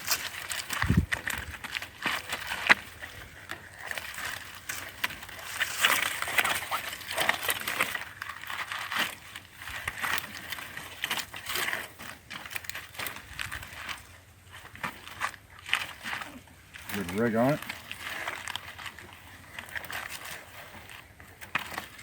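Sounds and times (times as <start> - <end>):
crunching in dry leaves: 0.0 - 22.0
strap rustling and scraping: 0.0 - 22.0.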